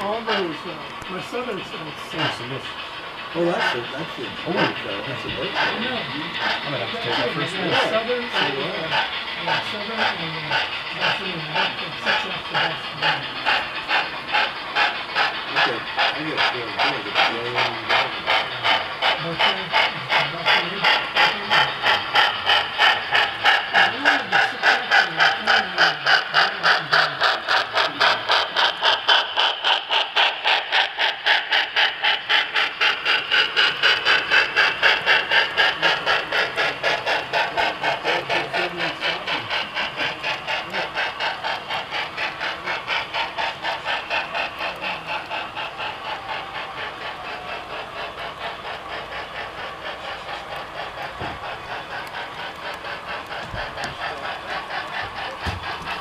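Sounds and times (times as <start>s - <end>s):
model steam locomotive chuffing: 0.0s - 56.0s.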